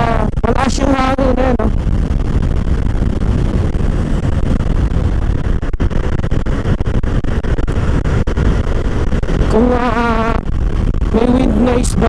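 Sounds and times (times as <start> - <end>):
wind buffeting a microphone: 0.0 - 12.0.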